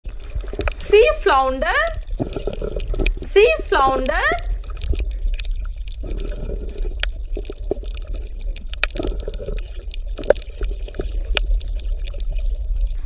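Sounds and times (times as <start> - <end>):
clicks and crackles: 0.0 - 0.8, 1.9 - 3.3, 4.0 - 13.0
underwater bubbling: 0.0 - 13.0.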